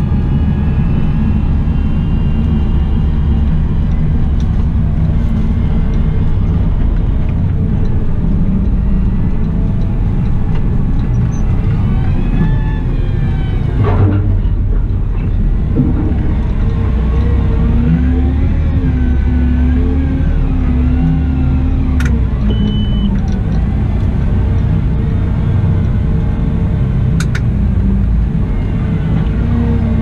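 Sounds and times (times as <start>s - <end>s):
machine whine: 0.0s - 25.6s
wheel loader engine rumble: 0.0s - 30.0s.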